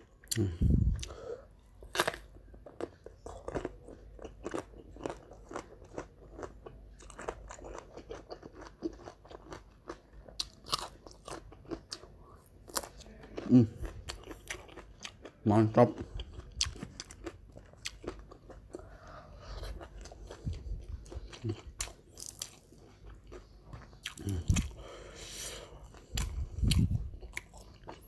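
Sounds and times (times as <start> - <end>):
crunching and chewing food: 0.0 - 28.0.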